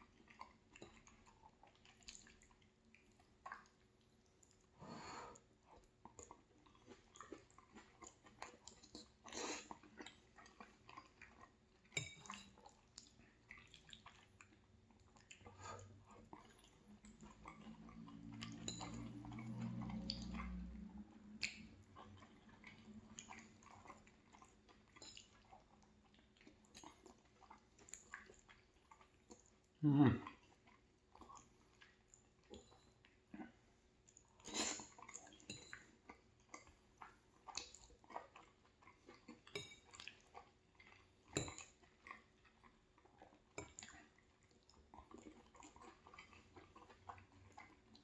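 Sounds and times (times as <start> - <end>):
person chewing: 0.1 - 48.0.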